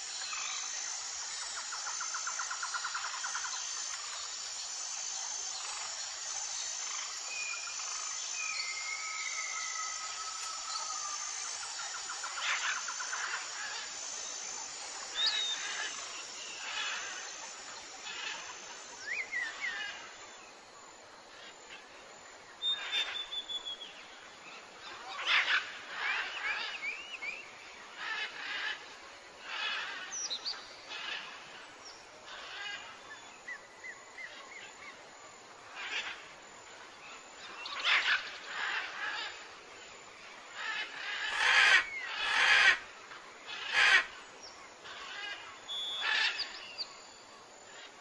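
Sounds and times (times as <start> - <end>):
faint hiss: 0.0 - 48.0.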